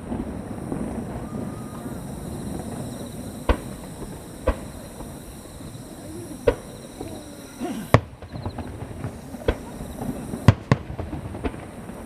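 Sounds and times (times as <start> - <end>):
distant fireworks bangs: 0.0 - 12.0.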